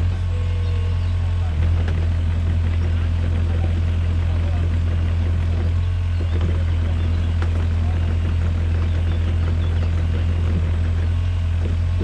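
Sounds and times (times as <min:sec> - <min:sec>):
diesel excavator engine idling: 0:00.0 - 0:12.0.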